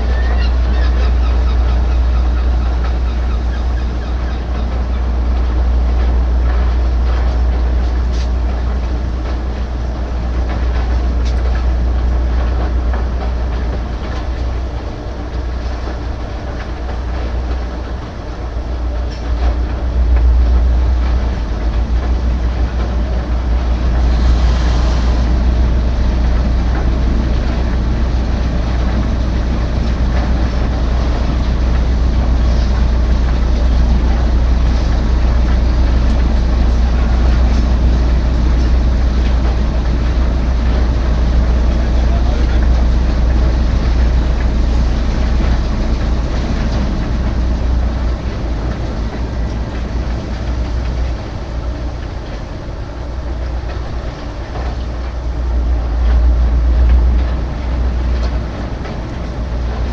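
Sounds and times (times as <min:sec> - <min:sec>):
heavy machinery rumbling: 0:00.0 - 0:59.9.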